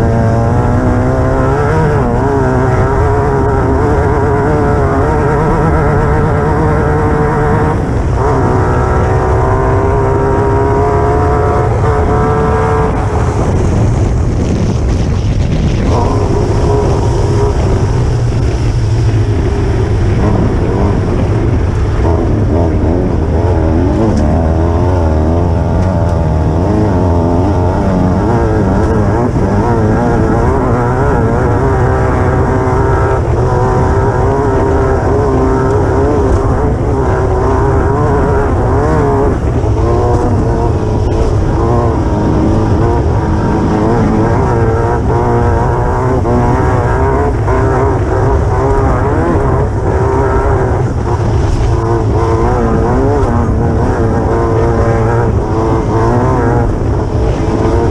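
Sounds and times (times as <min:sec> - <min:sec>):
buggy engine revving: 0:00.0 - 0:57.9.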